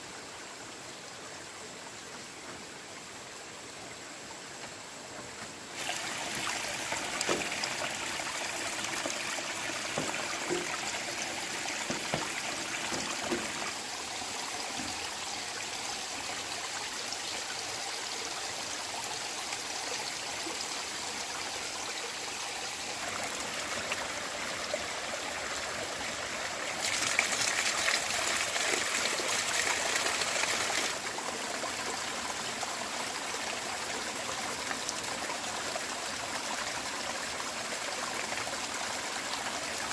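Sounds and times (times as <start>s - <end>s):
water trickling and splashing: 4.6s - 39.9s.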